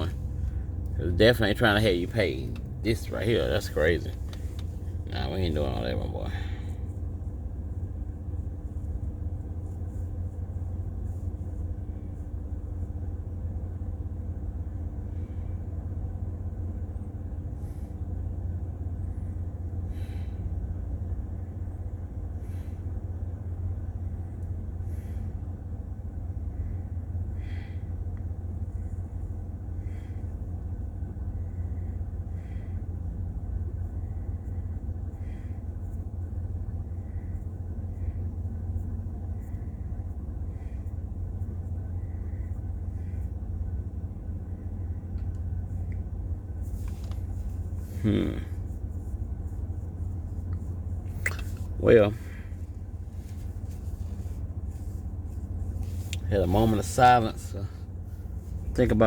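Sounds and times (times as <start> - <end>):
low background rumble: 0.0 - 59.0.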